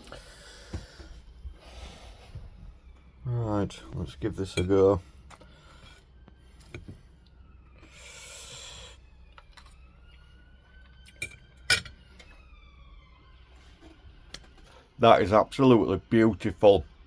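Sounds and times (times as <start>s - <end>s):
faint siren wailing: 0.0s - 17.0s.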